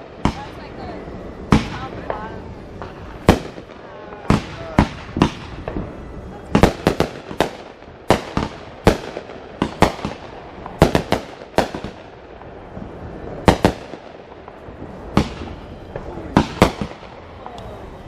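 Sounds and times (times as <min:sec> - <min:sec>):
fireworks booms and cracks: 0:00.0 - 0:18.0.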